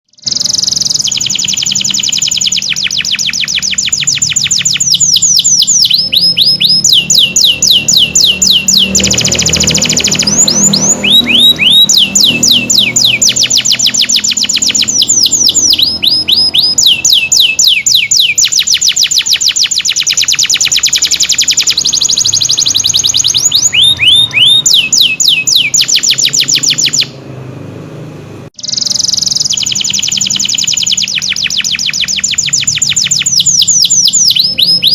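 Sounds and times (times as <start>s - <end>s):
canary singing trills: 0.0s - 27.2s, 28.6s - 34.9s.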